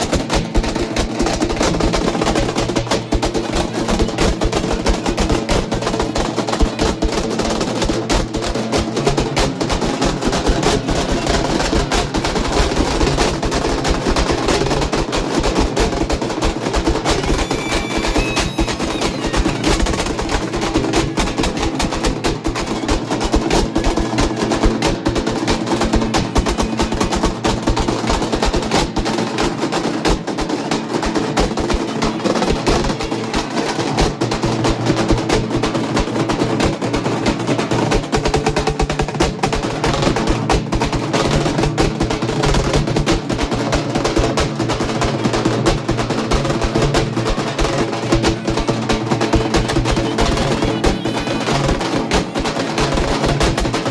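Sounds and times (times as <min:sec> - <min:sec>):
frame drums beaten with sticks: 0:00.0 - 0:53.9.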